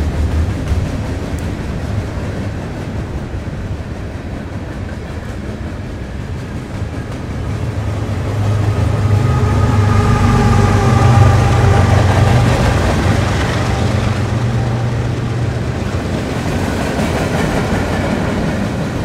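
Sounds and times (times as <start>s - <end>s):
diesel train engine rumble: 0.0s - 19.0s
steady high whine: 1.1s - 16.6s.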